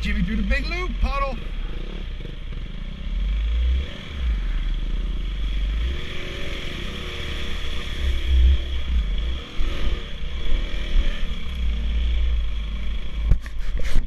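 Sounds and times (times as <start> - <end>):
dirt bike engines revving: 0.0 - 13.4.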